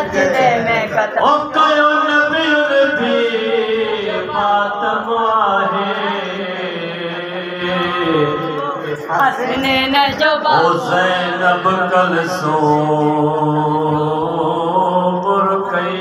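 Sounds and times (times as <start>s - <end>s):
man singing a lament: 0.0s - 9.6s, 10.3s - 16.0s.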